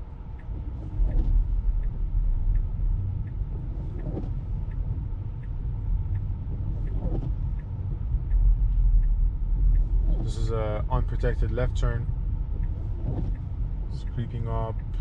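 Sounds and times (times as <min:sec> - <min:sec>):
low car cabin rumble: 0:00.0 - 0:15.0
turn signal ticking: 0:00.0 - 0:15.0
windshield wipers swishing: 0:00.0 - 0:15.0.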